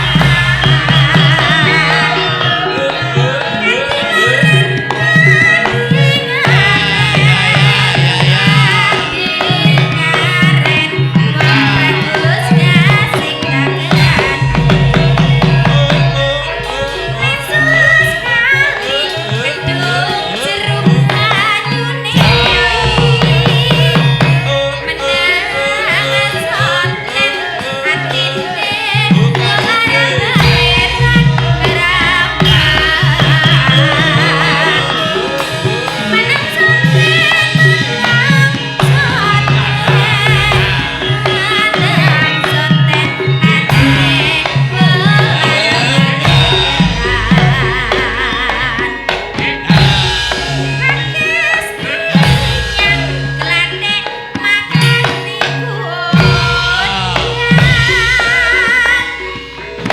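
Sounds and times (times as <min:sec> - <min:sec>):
gamelan music: 0:00.0 - 0:59.9
hand drum patterns: 0:00.0 - 0:59.9.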